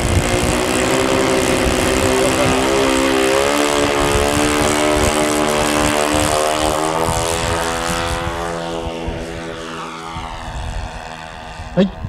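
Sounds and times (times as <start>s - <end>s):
model plane propeller engines: 0.0s - 12.0s.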